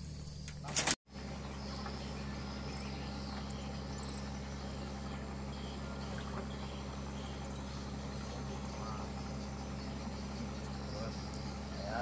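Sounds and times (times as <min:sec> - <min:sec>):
cricket trill: 0:00.0 - 0:12.0
low steady hum: 0:00.0 - 0:12.0.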